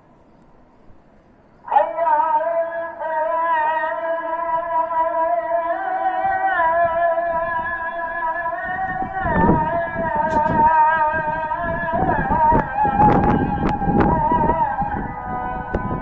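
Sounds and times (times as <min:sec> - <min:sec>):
man chanting call to prayer: 0:01.6 - 0:16.0.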